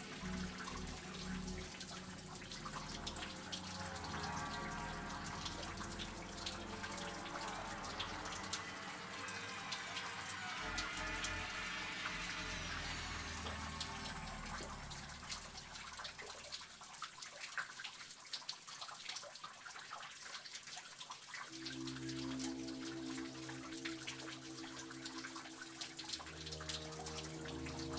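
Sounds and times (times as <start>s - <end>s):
stream water sloshing and trickling: 0.0s - 27.9s
water drips and small splashes: 0.0s - 27.9s.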